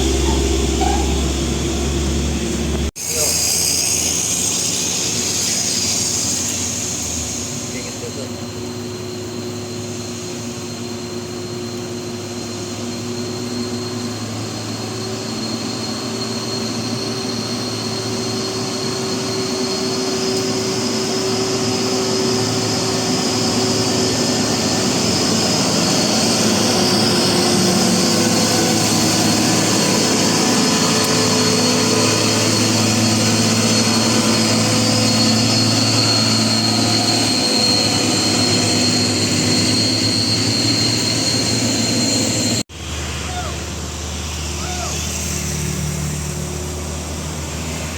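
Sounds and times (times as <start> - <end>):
heavy diesel engine laboring: 0.0 - 47.9
high whine: 0.0 - 47.9.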